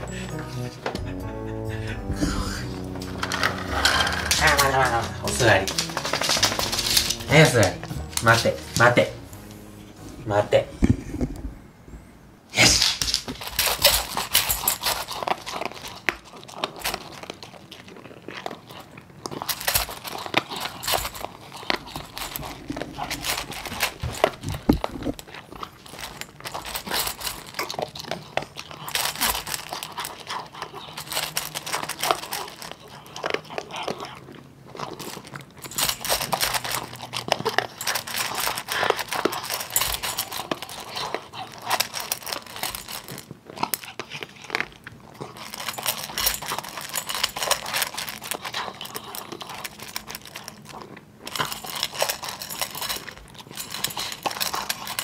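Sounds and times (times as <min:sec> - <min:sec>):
dog crunching dry kibble: 0:02.6 - 0:11.5, 0:12.6 - 0:55.0.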